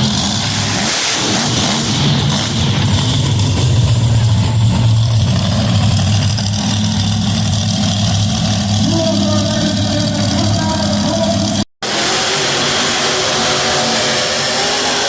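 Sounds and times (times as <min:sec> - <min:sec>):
monster truck engine running: 0:00.0 - 0:15.0.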